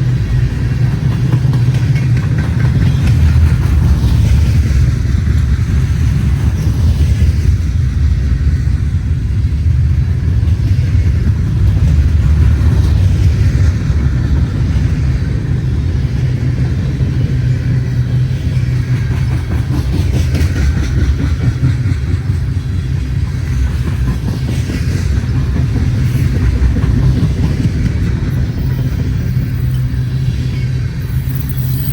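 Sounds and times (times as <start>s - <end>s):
freight train wheels rumbling: 0.0s - 31.9s.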